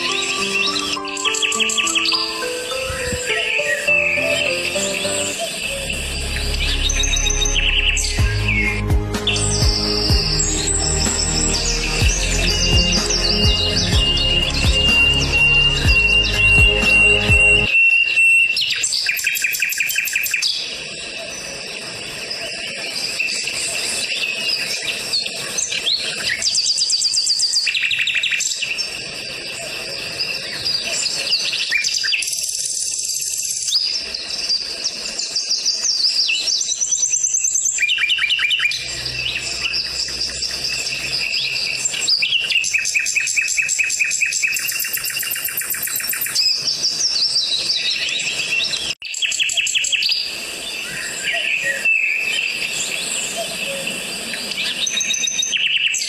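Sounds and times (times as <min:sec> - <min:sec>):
songbirds trilling and chirping: 0:00.0 - 0:56.0.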